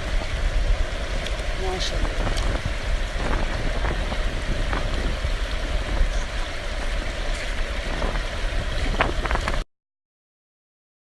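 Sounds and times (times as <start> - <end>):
flood water rushing: 0.0 - 9.6.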